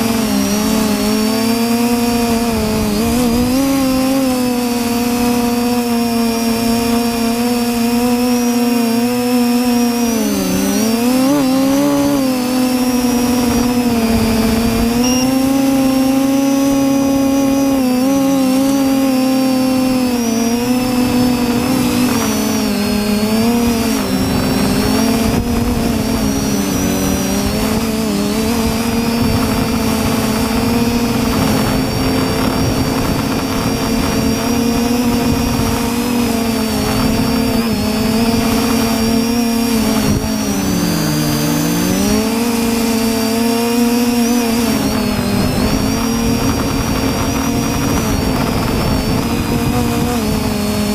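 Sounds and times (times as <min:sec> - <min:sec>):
drone motors buzzing: 0:00.0 - 0:50.9
wind rumbling on microphone: 0:00.0 - 0:50.9.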